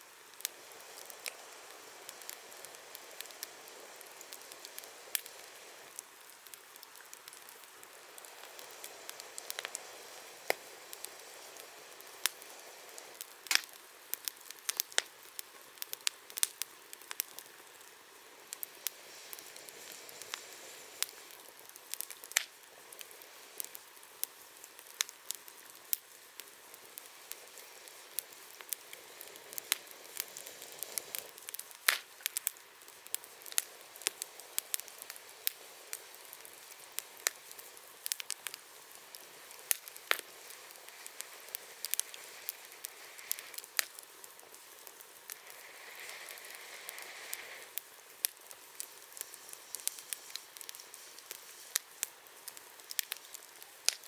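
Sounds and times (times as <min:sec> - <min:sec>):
campfire crackling: 0:00.0 - 0:54.0
fire hissing: 0:00.0 - 0:54.0.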